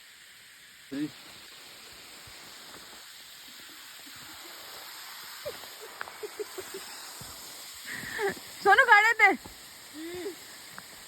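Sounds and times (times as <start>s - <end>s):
hiss of falling water: 0.0s - 11.0s.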